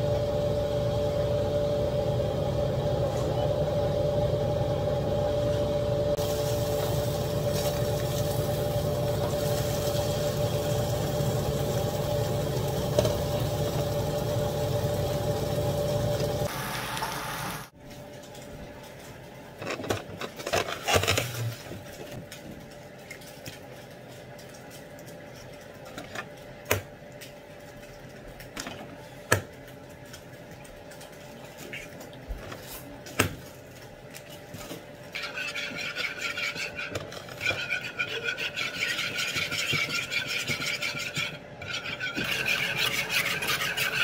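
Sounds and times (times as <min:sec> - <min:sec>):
steady stove noise: 0:00.0 - 0:44.0.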